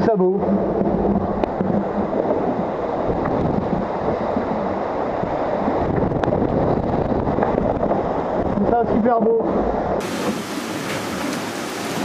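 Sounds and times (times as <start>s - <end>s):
waves breaking and spray: 0.0s - 12.0s
wind buffeting microphone: 0.0s - 12.0s.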